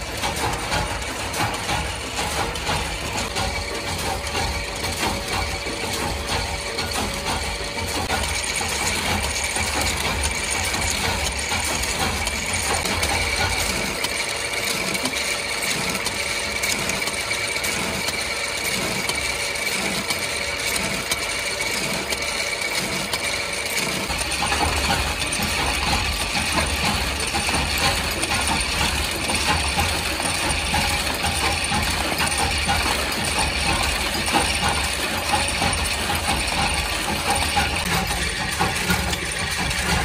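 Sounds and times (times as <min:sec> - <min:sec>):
machine metallic clatter: 0:00.0 - 0:40.0.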